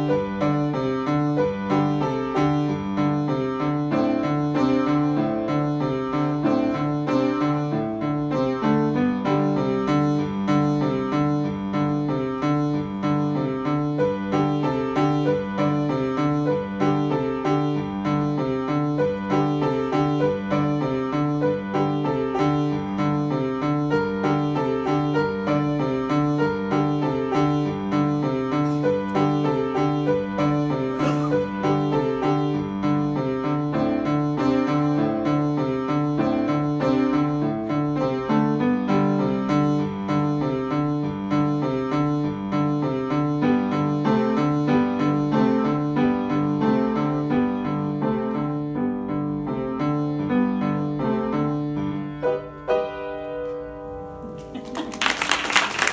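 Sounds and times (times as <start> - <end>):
grand piano playing: 0.0 - 55.9.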